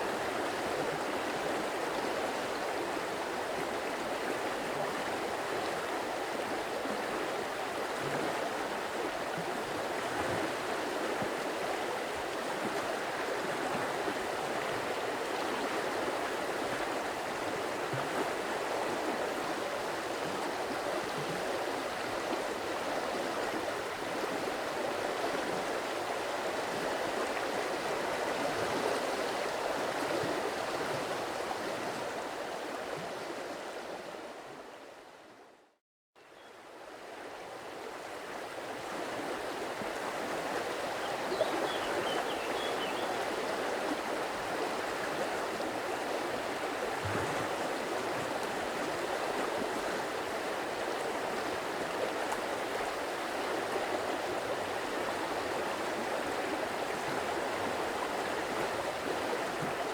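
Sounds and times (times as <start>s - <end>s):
stream water gurgling: 0.0s - 35.1s, 36.6s - 59.9s.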